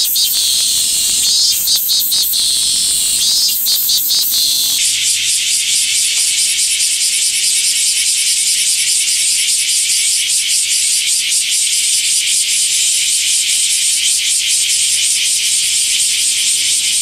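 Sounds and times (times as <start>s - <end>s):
cicada buzzing: 0.0s - 17.0s.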